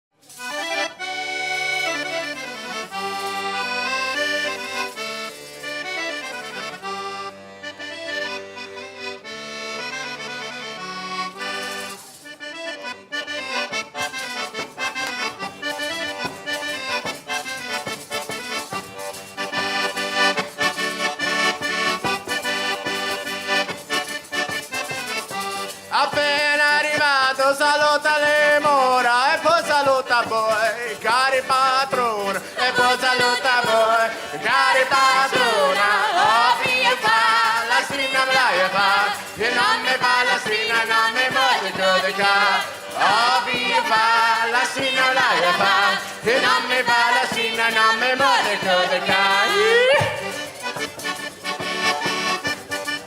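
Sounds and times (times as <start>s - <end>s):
accordion playing folk tune: 0.1s - 53.0s.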